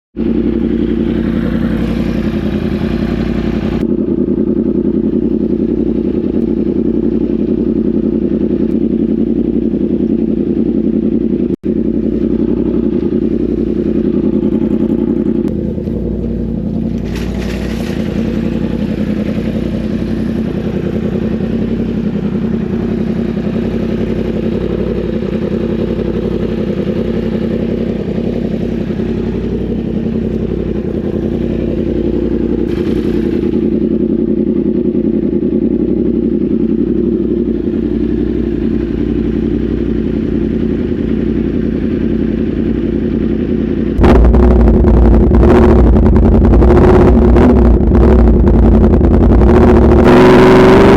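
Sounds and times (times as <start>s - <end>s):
motorcycle engine running: 0.1s - 50.9s.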